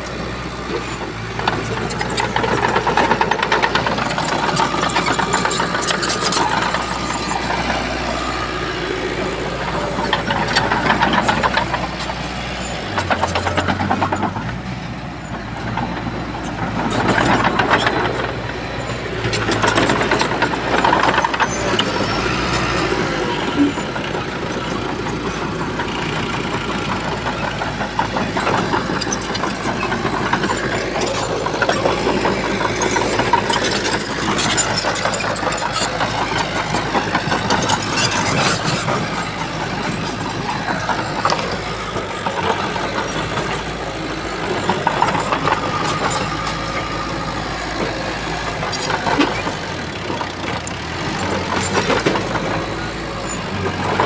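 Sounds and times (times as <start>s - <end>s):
bulldozer diesel engine under load: 0.0s - 54.0s
steady clatter: 0.0s - 54.0s.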